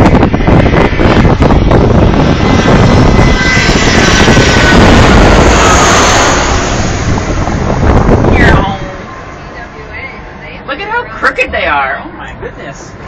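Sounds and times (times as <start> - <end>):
airliner passing overhead: 0.0 - 13.0.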